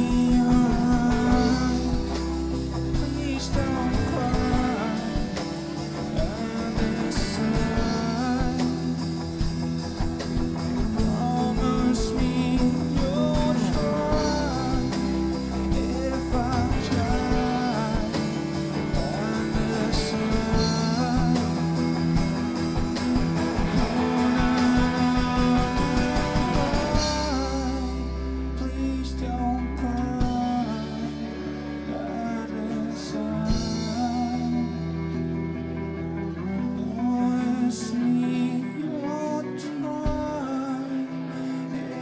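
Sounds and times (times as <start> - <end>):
drums: 0.0 - 42.0
electric and bass guitars: 0.0 - 42.0
lead vocal singing: 0.0 - 42.0.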